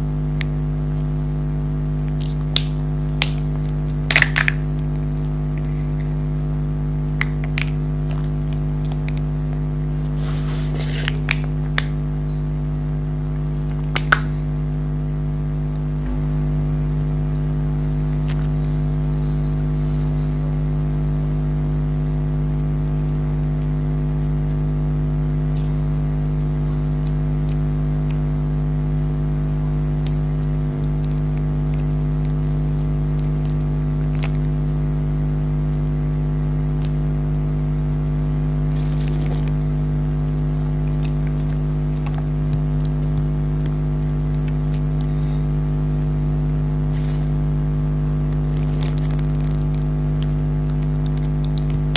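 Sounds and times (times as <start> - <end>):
motor-like hum: 0.0 - 51.9.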